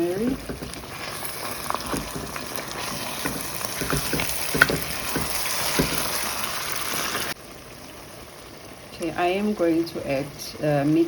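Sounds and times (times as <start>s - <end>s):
meat sizzling in a pot: 0.0s - 11.0s.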